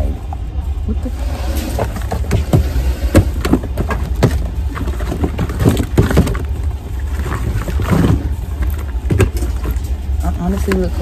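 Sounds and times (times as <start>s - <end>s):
steady low rumble: 0.0s - 11.0s
shoes knocking and clattering: 1.8s - 11.0s.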